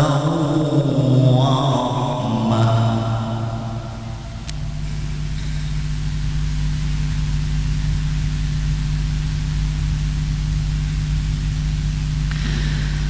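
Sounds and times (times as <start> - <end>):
electrical mains hum with hiss: 0.0 - 13.0.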